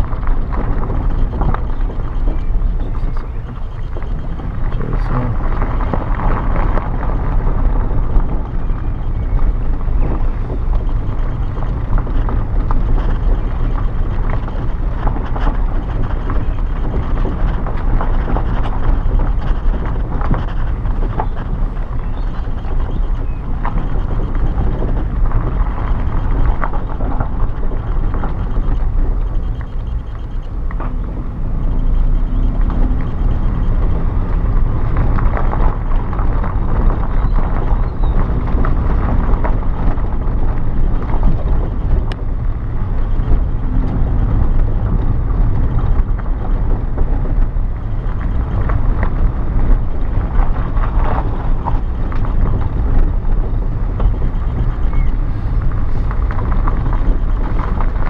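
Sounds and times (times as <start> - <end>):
car engine and road rumble: 0.0 - 58.0
wind buffeting microphone: 0.0 - 58.0.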